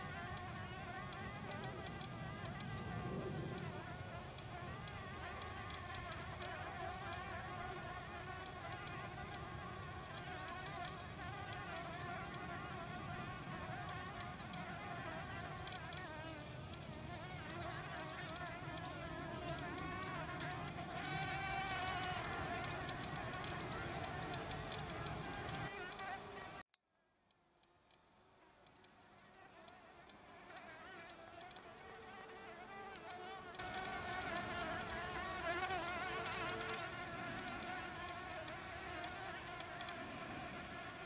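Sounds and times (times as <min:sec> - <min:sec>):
bees buzzing in flight: 0:00.0 - 0:26.6, 0:29.2 - 0:41.0.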